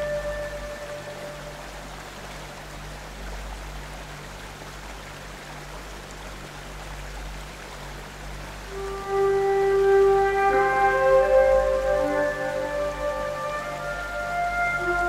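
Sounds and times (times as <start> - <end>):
low steady hum: 0.0 - 15.0
rain-like rushing hiss: 0.0 - 15.0.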